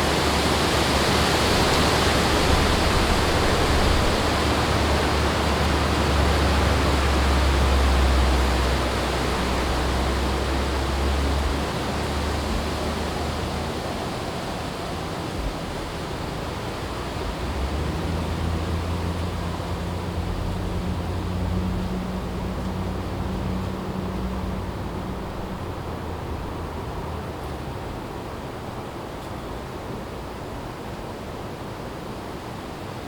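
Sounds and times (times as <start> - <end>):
wind rumble on microphone: 0.0 - 29.0
strong wind gusting through trees: 0.0 - 33.0.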